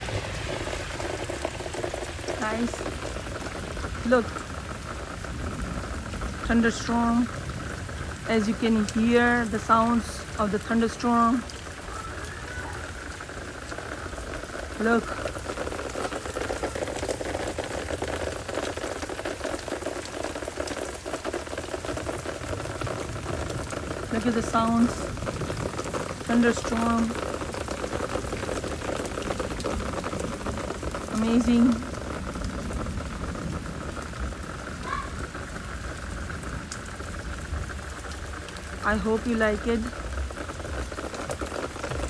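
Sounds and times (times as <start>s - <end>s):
low thunder rumble: 0.0s - 21.1s, 21.7s - 42.0s
heavy rain on hard surface: 0.0s - 42.0s.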